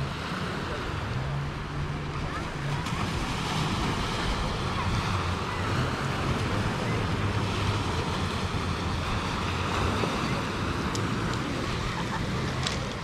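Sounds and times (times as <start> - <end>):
waves washing over pebbles: 0.0 - 13.0.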